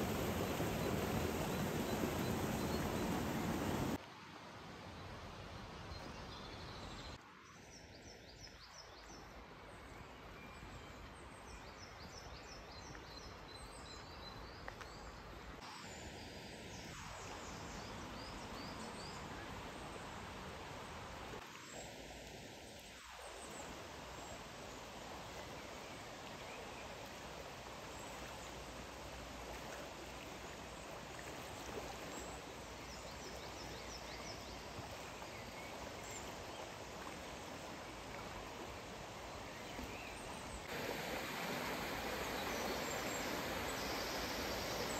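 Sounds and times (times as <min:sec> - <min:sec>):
river flowing: 0:00.0 - 0:06.2, 0:15.0 - 0:44.9.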